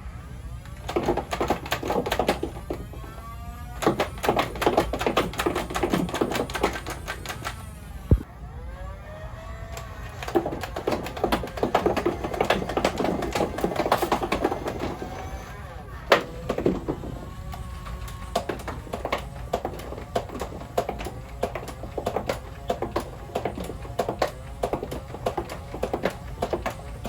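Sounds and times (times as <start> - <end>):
toy blaster motors whining: 0.0 - 27.0
darts firing in rapid clicks: 0.8 - 3.0, 3.8 - 8.3, 10.1 - 15.0, 16.1 - 27.0.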